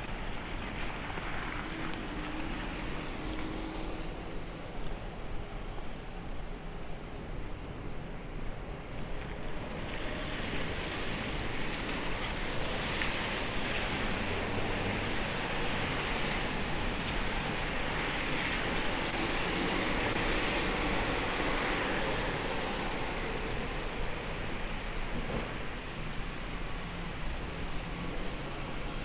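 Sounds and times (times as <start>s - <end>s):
tyres hissing on wet road: 0.0s - 29.0s.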